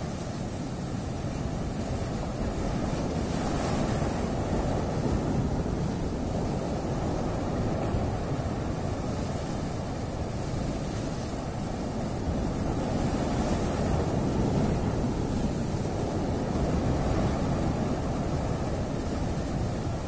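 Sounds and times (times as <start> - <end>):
surf breaking on rocky shore: 0.0 - 20.0.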